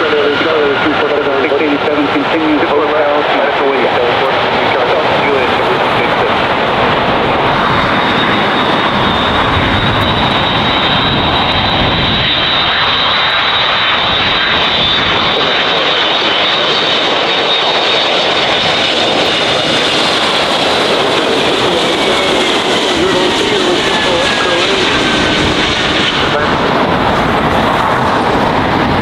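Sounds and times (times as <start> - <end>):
high engine whine: 0.0 - 29.0
jet engines roaring: 0.0 - 29.0.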